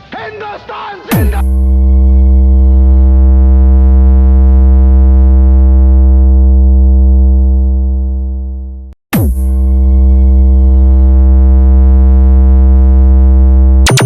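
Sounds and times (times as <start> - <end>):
deep synthesized bass note: 1.1 - 14.0.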